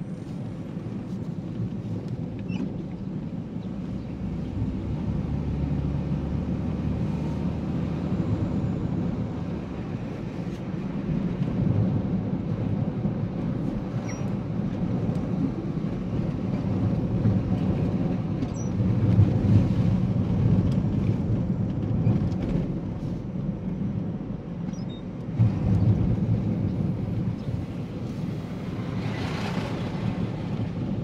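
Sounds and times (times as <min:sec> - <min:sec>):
engine and tyre rumble: 0:00.0 - 0:31.0.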